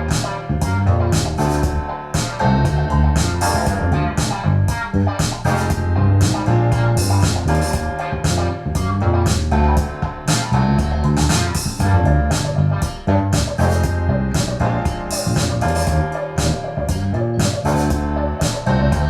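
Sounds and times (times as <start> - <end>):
music with drum beat and bass: 0.0 - 19.0.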